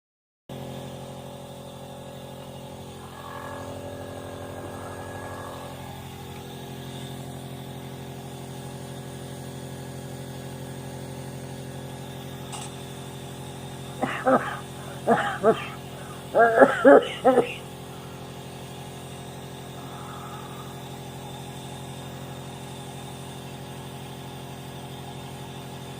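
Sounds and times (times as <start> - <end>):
steady machine hum: 0.5 - 25.9.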